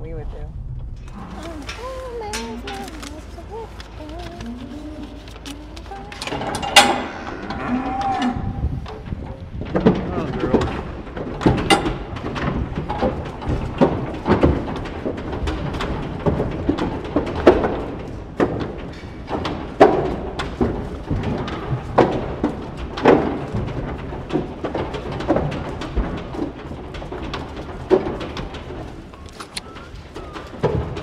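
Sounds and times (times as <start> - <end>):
cow hooves on concrete floor: 1.0 - 31.0.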